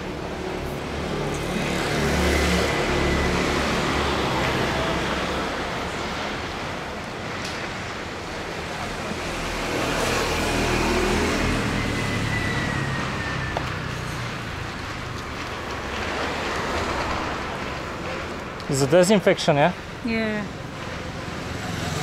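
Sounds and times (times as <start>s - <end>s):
road traffic passing: 0.0s - 22.0s
vehicle engine rumble: 0.0s - 22.0s.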